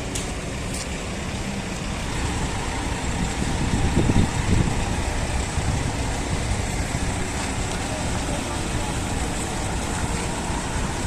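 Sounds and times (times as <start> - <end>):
engine running with low rumble: 0.0 - 11.0.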